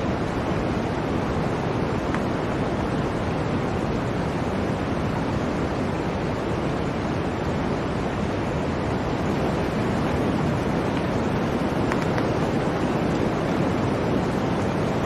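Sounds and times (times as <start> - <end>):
blizzard wind blowing: 0.0 - 15.0.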